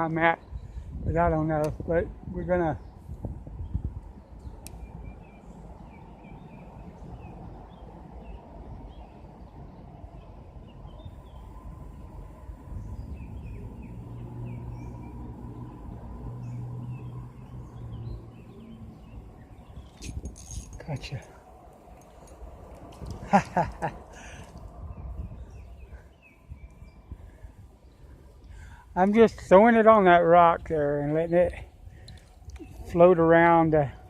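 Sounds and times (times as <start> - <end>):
birds chirping: 0.0 - 34.0
low outdoor rumble: 0.8 - 34.0.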